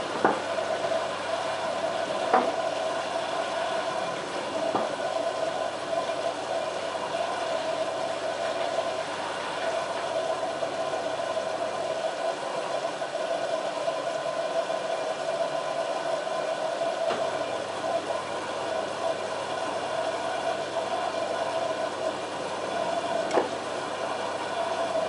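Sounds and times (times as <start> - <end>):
washing machine motor hum: 0.0 - 25.0
washing machine whine: 0.0 - 25.0.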